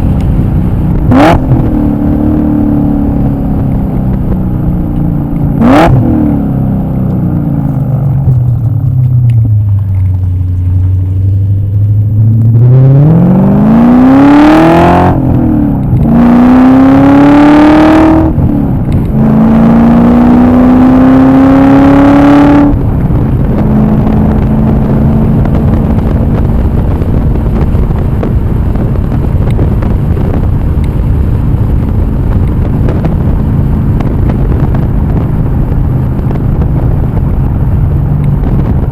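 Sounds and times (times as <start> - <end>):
car engine accelerating hard: 0.0 - 38.9
road and wind noise: 0.0 - 38.9.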